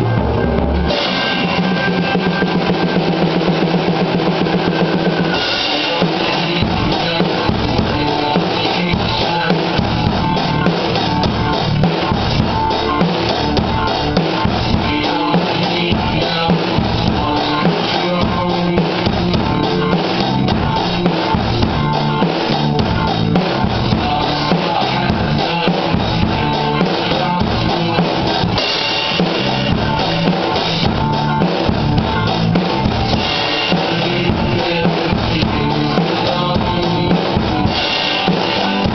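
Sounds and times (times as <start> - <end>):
drum kit rock beat: 0.0 - 38.9
recorded rock song: 0.0 - 38.9.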